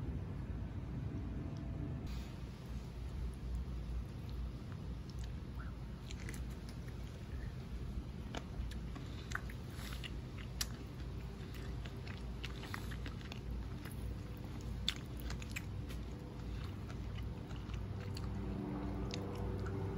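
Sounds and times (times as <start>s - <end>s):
low steady rumble: 0.0s - 19.9s.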